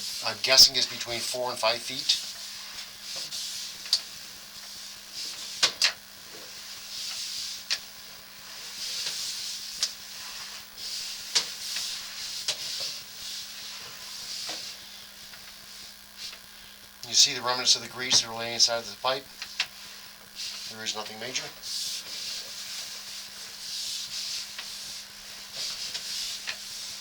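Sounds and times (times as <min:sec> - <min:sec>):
camera rig rubbing hiss in drain: 0:00.0 - 0:27.0
steady low hum: 0:00.0 - 0:27.0.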